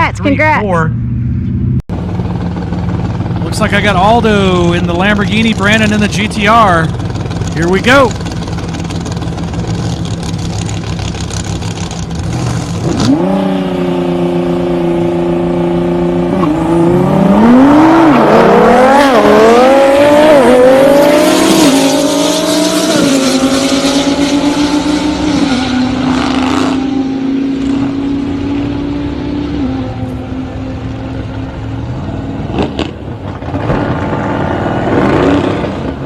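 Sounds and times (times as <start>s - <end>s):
race car engines revving: 3.3s - 36.0s.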